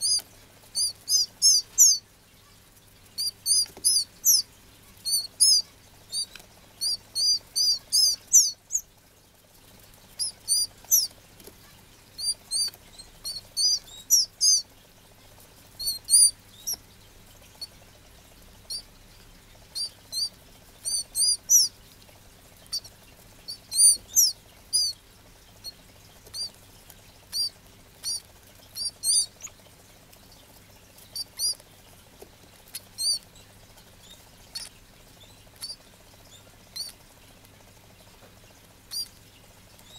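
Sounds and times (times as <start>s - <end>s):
bird chick cheeping: 0.0s - 9.0s, 9.6s - 17.9s, 18.5s - 21.9s, 22.5s - 29.6s, 30.3s - 31.6s, 32.7s - 37.2s, 38.1s - 39.9s.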